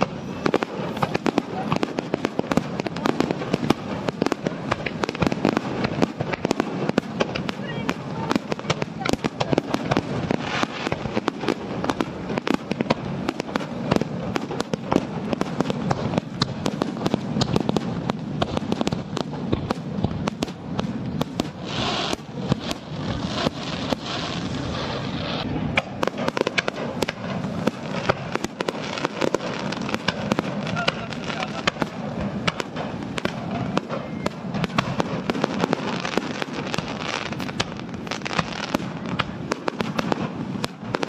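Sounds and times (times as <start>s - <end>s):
crackling firework hiss: 0.0s - 41.0s
fireworks bangs: 0.0s - 41.0s.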